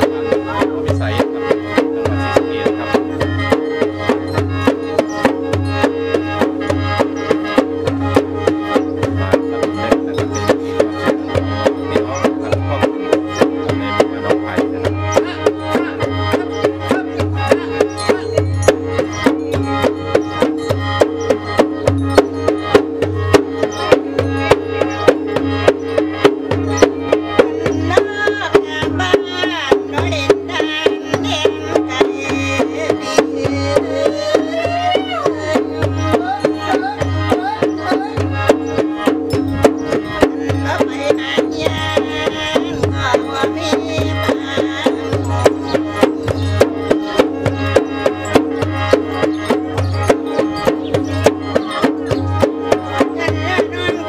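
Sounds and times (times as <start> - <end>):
hand drums beating: 0.0 - 54.0
mouth organ drone: 0.0 - 54.0
sliding high melody: 0.0 - 54.0.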